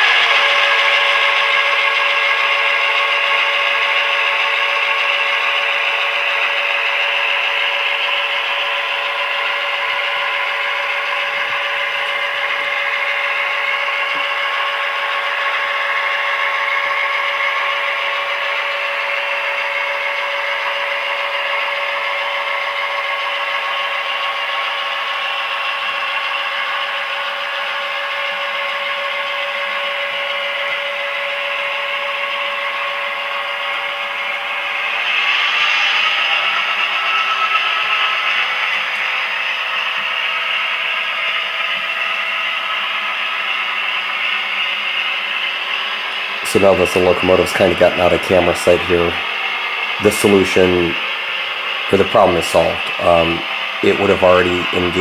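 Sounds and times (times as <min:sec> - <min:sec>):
diesel engine sound through speaker: 0:00.0 - 0:55.0
whir of model train: 0:00.0 - 0:55.0.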